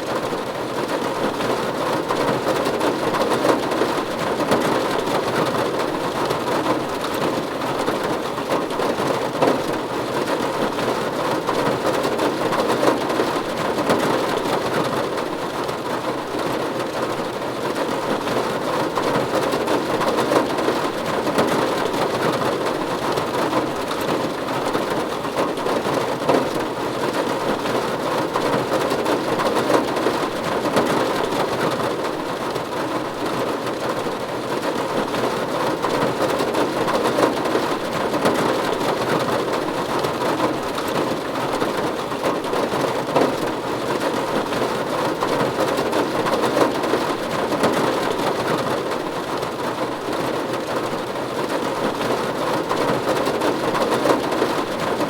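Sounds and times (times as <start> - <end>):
rain falling on a roof: 0.0 - 55.0.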